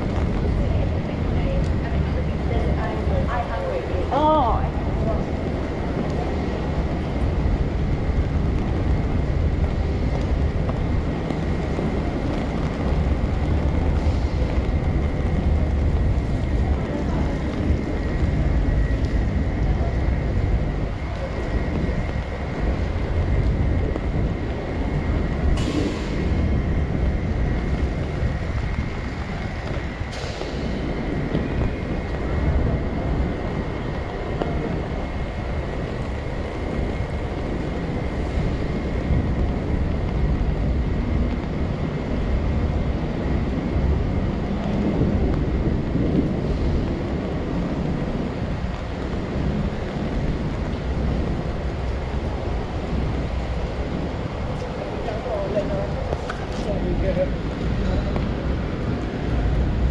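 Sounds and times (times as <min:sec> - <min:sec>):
city street traffic rumble: 0:00.0 - 0:59.9
wind buffeting microphone: 0:00.0 - 0:59.9.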